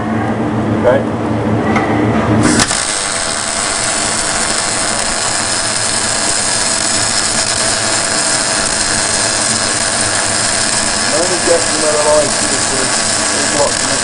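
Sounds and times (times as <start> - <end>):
welding arc crackling hiss: 2.4 - 14.0.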